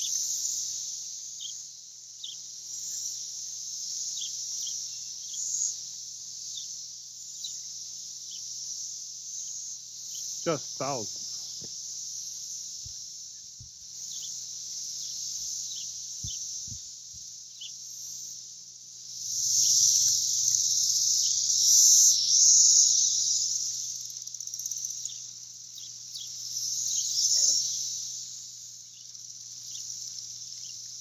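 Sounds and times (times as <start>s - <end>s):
cicadas buzzing: 0.0s - 31.0s
individual cicada calls: 0.0s - 31.0s.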